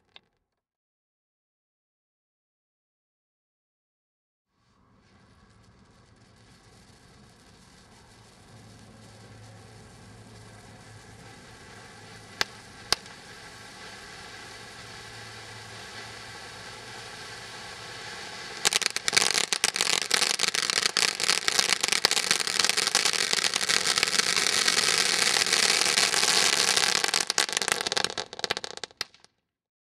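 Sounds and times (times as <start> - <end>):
dense firework crackling: 4.5 - 29.3
firework fountain hissing sparks: 4.6 - 29.3
sharp firework cracks: 5.1 - 29.3.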